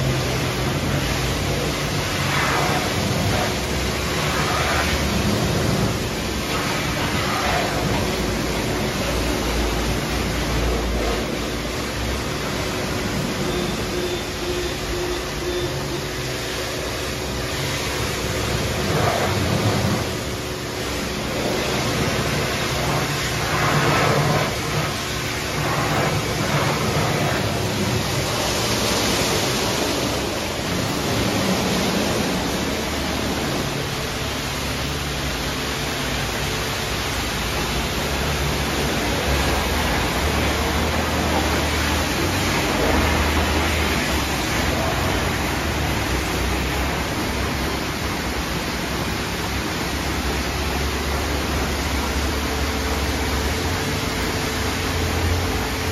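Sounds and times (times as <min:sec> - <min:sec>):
low motor hum: 0:00.0 - 0:55.9
spinning brushes scrubbing car: 0:00.0 - 0:55.9
water and foam pouring: 0:00.0 - 0:55.9.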